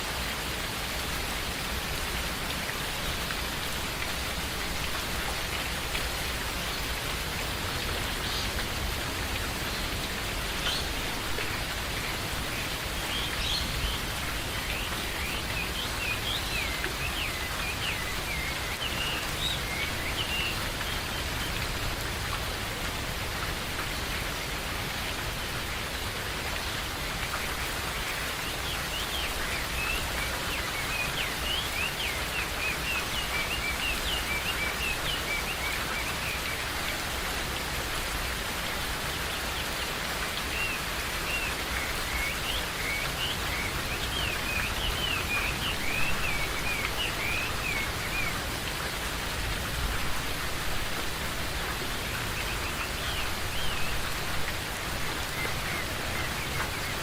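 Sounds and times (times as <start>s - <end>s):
steady rain in a forest: 0.0s - 57.0s.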